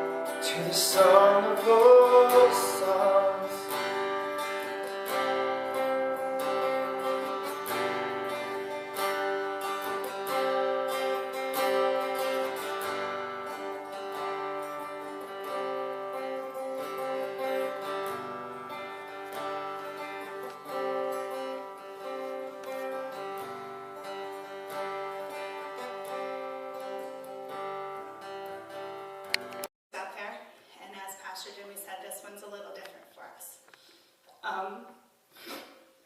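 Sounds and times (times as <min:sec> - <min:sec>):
acoustic guitar strumming chords: 0:00.0 - 0:29.7.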